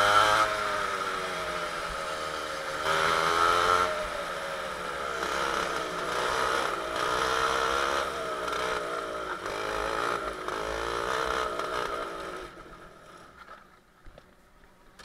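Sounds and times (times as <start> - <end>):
kart engine running: 0.0 - 13.8.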